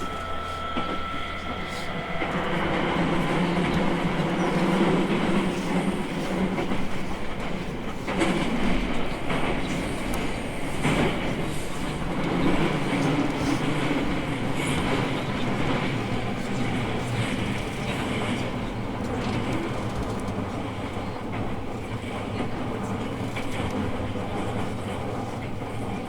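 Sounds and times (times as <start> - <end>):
rail-joint clacks: 0.0 - 26.0
train rumble inside car: 0.0 - 26.0.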